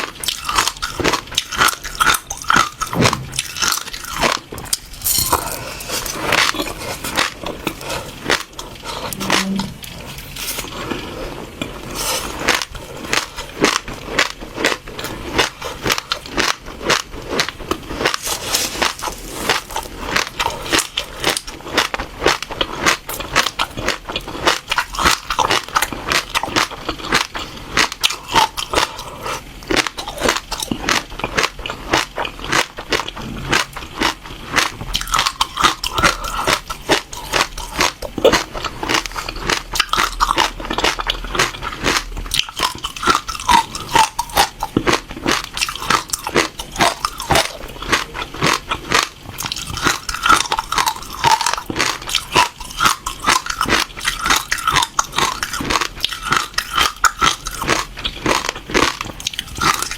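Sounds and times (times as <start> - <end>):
seeds crunching between teeth: 0.0 - 10.9, 11.8 - 59.9.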